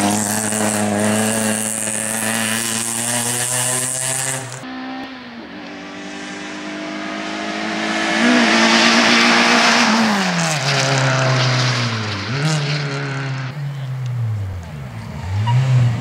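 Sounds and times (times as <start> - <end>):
rally car engine: 0.0 - 16.0
tyre and road noise: 0.0 - 16.0.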